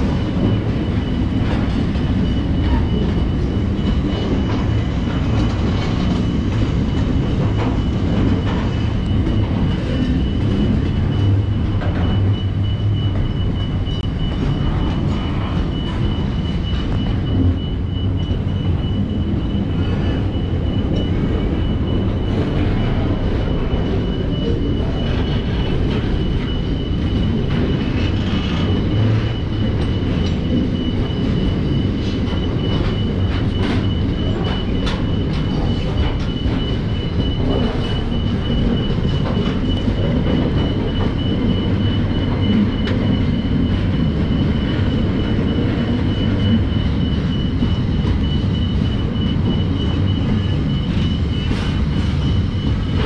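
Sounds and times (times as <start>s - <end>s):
steel wheels rumbling on rails: 0.0s - 53.0s.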